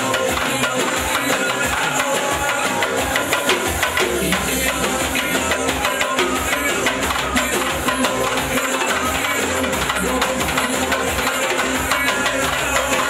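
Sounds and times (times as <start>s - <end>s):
fast hand drumming: 0.0s - 13.0s
lively dance music: 0.0s - 13.0s.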